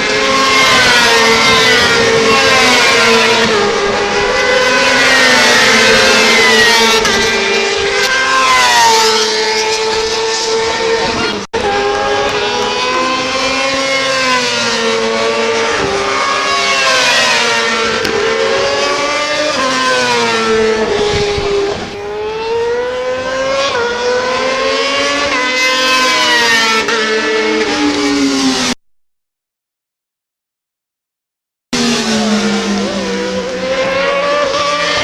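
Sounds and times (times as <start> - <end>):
racing motorcycle engines revving: 0.0 - 28.8, 31.8 - 35.0.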